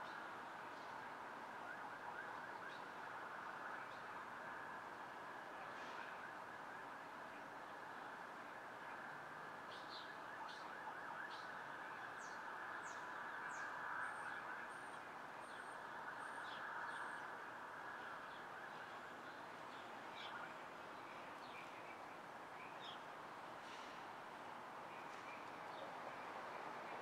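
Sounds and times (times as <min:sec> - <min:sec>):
distant city traffic hum: 0:00.0 - 0:27.0.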